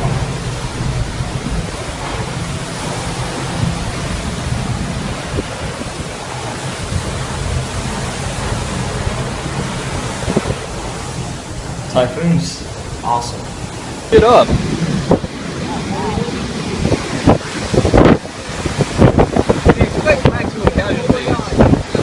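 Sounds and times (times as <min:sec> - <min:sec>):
strong wind blowing: 0:00.0 - 0:22.0.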